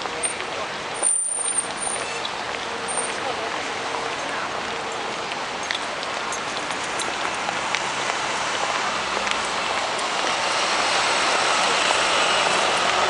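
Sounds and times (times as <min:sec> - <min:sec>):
city street traffic: 0:00.0 - 0:13.0
truck passing close: 0:00.0 - 0:13.0.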